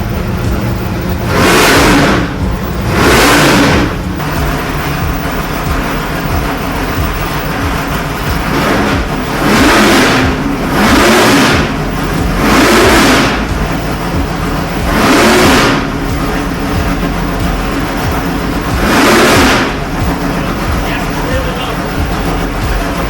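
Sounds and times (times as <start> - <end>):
engine idling with throttle blips: 0.0 - 23.0.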